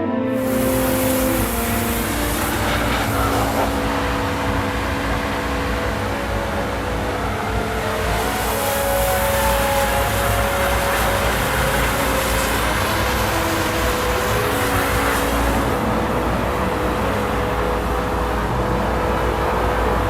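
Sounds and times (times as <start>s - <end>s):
tyre hiss: 0.3s - 18.2s
road traffic rumble: 0.3s - 20.0s.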